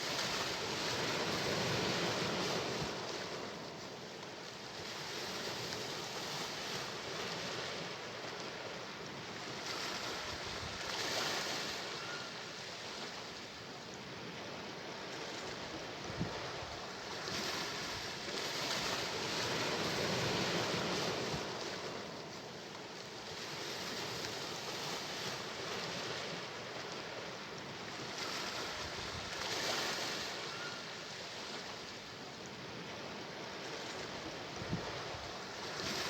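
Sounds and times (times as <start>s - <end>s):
sea waves washing onto shore: 0.0s - 36.0s.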